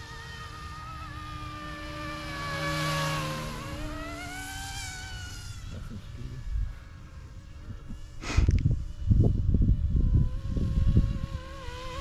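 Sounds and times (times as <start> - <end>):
rc helicopter motor whine and buzz: 0.0 - 12.0.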